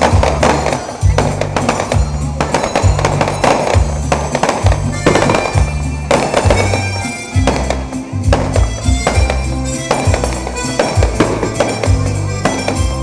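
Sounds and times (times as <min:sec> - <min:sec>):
fireworks banging and crackling: 0:00.0 - 0:13.0
loud music with bass beat: 0:00.0 - 0:13.0.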